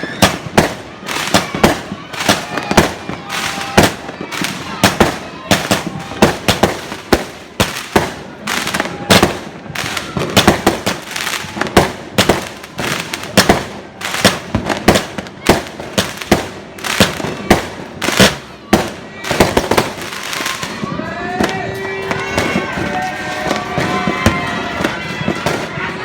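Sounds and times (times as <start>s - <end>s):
fireworks banging: 0.0s - 26.0s.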